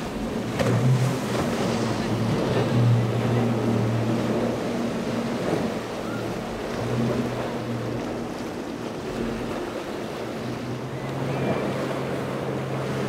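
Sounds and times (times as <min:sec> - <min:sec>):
outboard motors droning: 0:00.0 - 0:13.0
water rushing off hull: 0:00.0 - 0:13.0.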